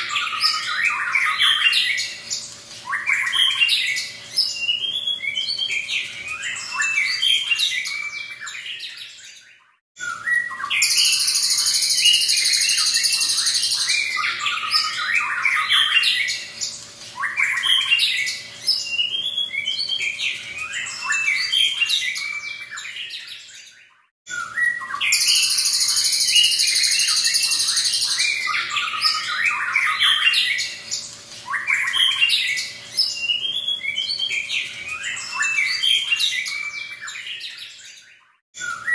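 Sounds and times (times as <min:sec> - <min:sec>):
bird singing whistled notes: 0:02.8 - 0:38.9.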